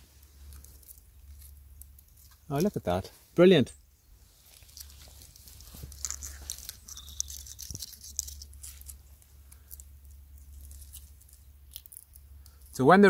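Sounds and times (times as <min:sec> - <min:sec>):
husks and leaves crackling: 0:00.0 - 0:13.0
low steady rumble: 0:00.0 - 0:13.0.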